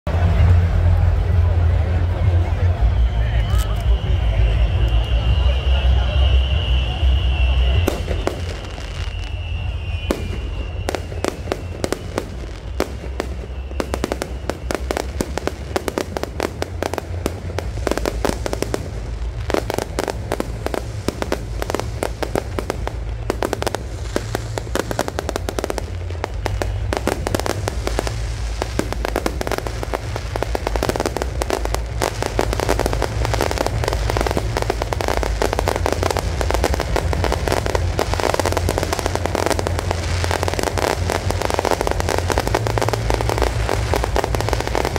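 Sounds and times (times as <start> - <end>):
low rumble: 0.1 - 44.9.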